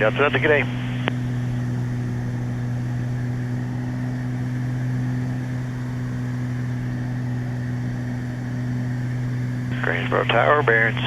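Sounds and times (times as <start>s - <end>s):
piston engines droning: 0.0s - 11.0s.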